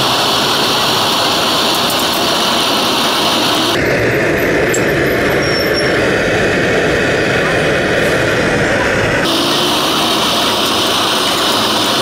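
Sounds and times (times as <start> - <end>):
loud mechanical drone: 0.0 - 12.0.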